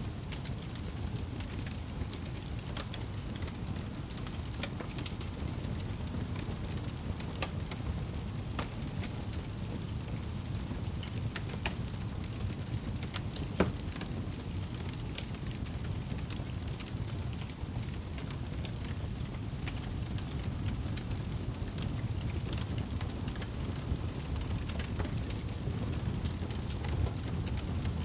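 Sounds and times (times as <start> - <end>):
fire rumbling: 0.0 - 28.0
logs crackling and popping: 0.0 - 28.0.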